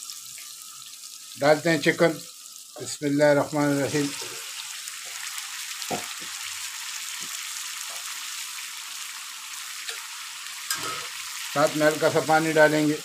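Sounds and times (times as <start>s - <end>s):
chicken sizzling in a wok: 0.0s - 13.0s.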